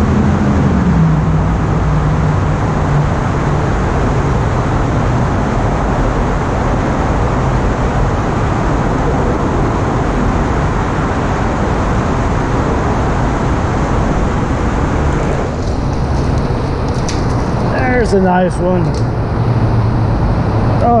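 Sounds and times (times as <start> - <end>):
road traffic rumble overhead: 0.0 - 21.0.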